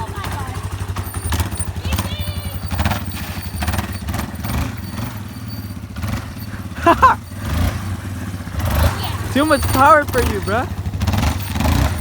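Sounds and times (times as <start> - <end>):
engine pulsing rumble: 0.0 - 12.0.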